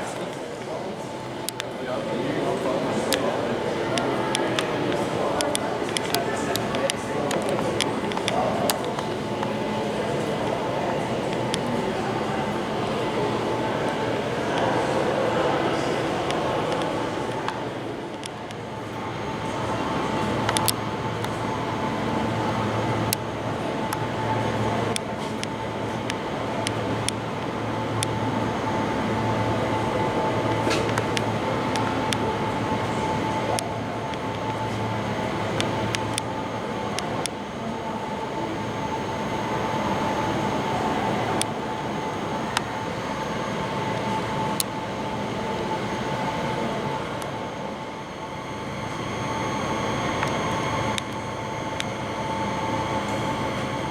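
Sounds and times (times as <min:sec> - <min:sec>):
held hum: 0:00.0 - 0:53.9.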